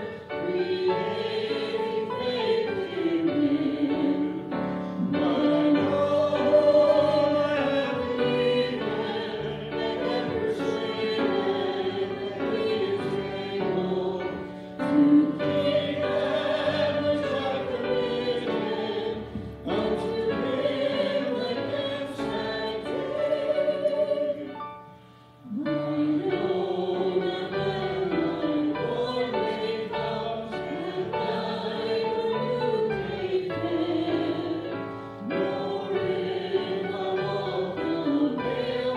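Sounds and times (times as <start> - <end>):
voices singing a hymn: 0.0 - 38.9.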